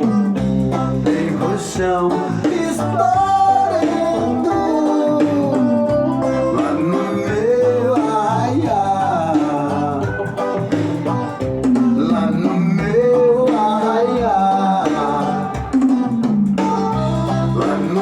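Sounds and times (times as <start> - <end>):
person singing: 0.0 - 18.0
plucked guitar: 0.0 - 18.0.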